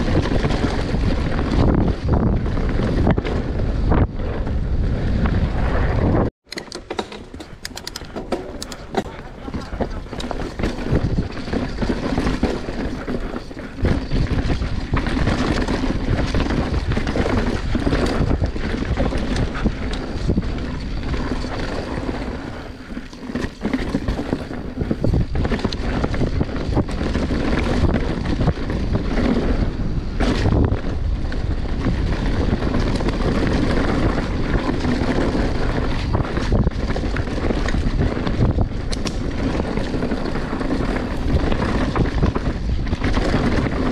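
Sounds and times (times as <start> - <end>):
wind rushing over microphone: 0.0 - 6.3, 7.4 - 43.9
bike rattling over rough ground: 0.0 - 43.9.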